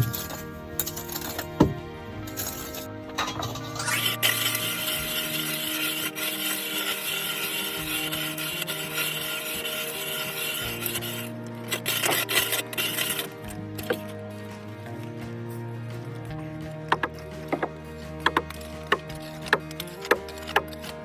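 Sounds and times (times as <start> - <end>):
ice auger rasping through ice: 0.0 - 15.4, 16.1 - 21.0
background music: 0.0 - 21.0.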